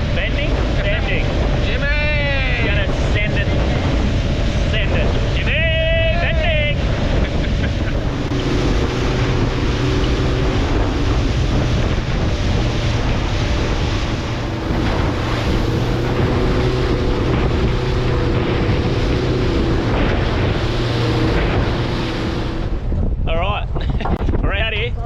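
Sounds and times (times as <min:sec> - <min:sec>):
water rushing against hull: 0:00.0 - 0:24.9
boat engine running: 0:00.0 - 0:25.0
wind buffeting microphone: 0:00.0 - 0:25.0.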